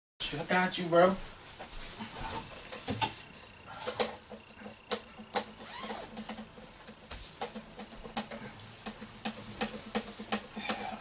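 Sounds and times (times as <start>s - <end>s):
faint steady hum: 0.2s - 11.0s.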